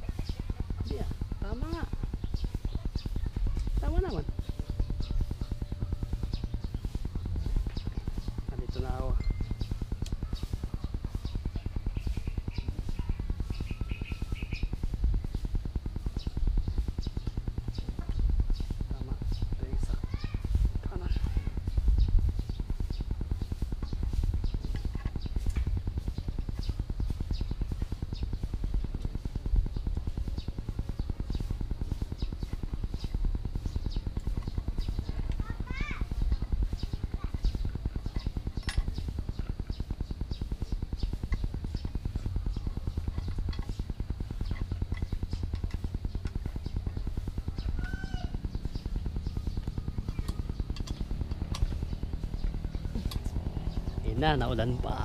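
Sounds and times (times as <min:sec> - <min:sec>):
small engine idling: 0:00.0 - 0:55.0.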